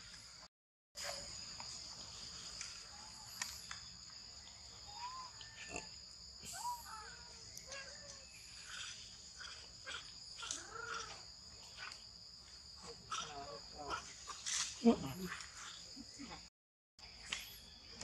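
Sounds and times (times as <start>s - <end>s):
insects buzzing: 1.0s - 16.4s.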